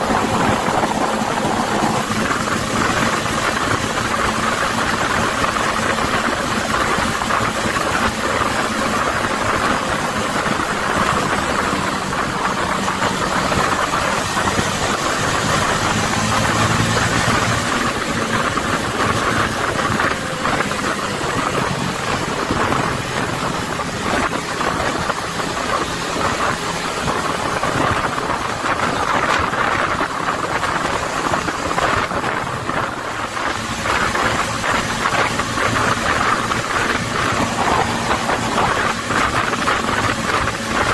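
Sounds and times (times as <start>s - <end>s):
bus engine running: 0.0s - 40.9s
road and tyre noise: 0.0s - 40.9s.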